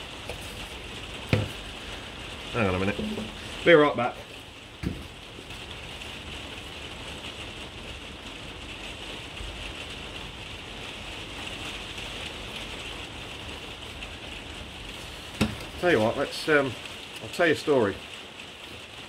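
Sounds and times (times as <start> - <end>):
rain on a roof: 0.0 - 19.0.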